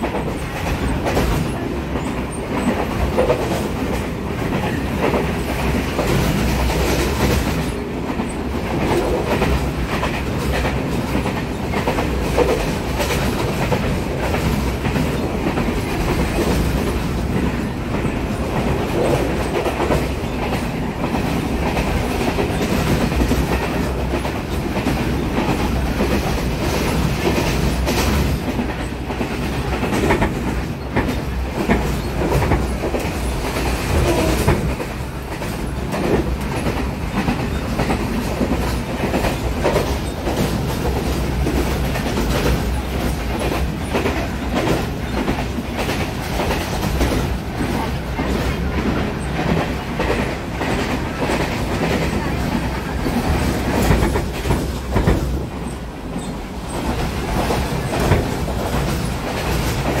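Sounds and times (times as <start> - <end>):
train rumbling: 0.0 - 60.0
wheels clacking over rail joints: 0.0 - 60.0.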